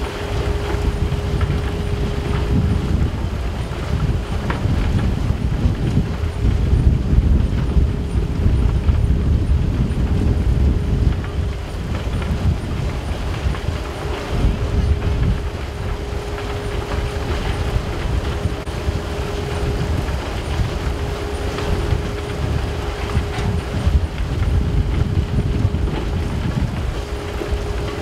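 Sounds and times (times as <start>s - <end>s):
constant hum: 0.0s - 28.0s
low machinery rumble: 0.0s - 28.0s.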